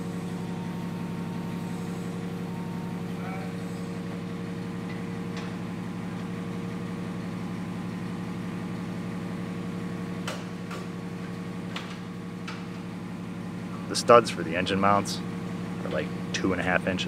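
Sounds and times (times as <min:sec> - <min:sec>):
idling engine hum: 0:00.0 - 0:17.0.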